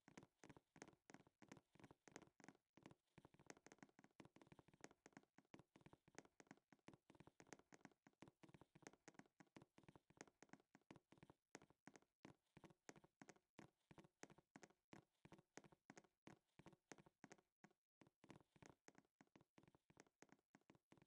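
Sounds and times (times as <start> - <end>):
faint irregular tapping clicks: 0.0 - 21.0.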